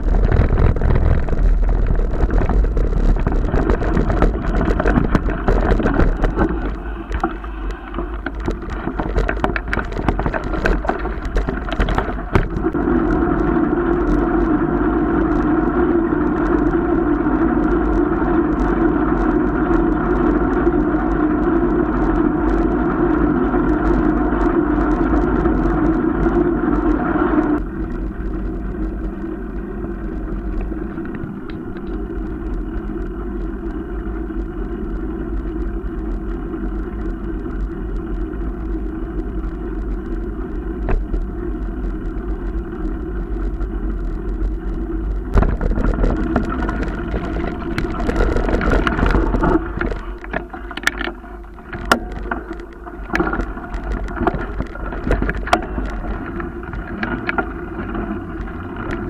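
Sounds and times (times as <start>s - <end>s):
tyres crackling on gravel: 0.0s - 59.0s
wind and tyre rumble: 0.0s - 59.0s.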